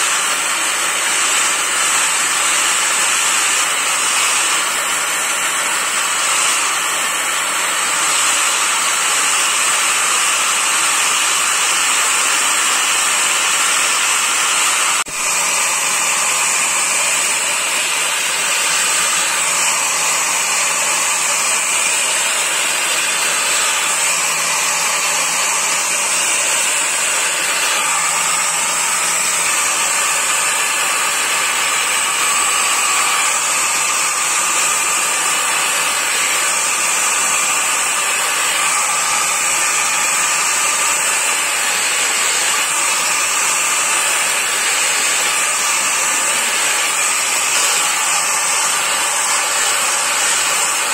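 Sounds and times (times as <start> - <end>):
angle grinder grinding steel: 0.0 - 50.9.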